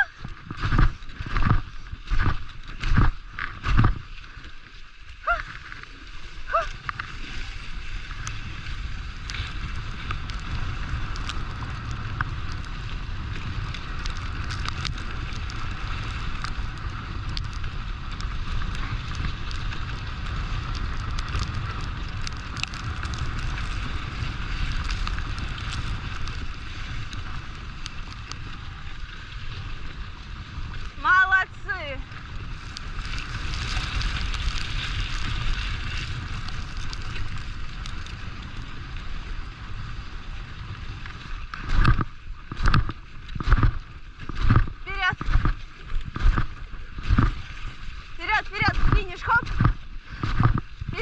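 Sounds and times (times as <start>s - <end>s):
wind on microphone: 0.0s - 4.1s, 5.2s - 51.0s
rushing over snow: 0.0s - 51.0s.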